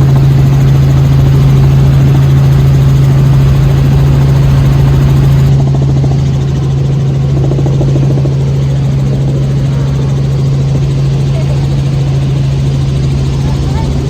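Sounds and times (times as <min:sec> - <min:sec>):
helicopter drone: 0:00.0 - 0:14.0.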